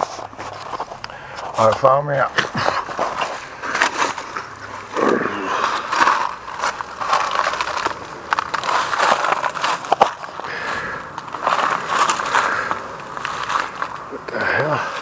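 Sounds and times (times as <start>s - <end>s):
sharp cracks: 2.4s - 15.0s.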